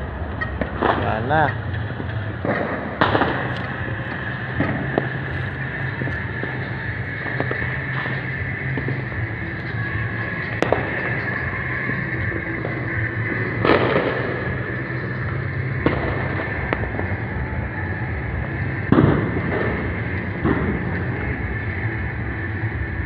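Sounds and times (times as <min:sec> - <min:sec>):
distant fireworks bangs: 0:00.0 - 0:23.0
rolling echo: 0:00.0 - 0:23.0
steady background hum: 0:00.0 - 0:23.0.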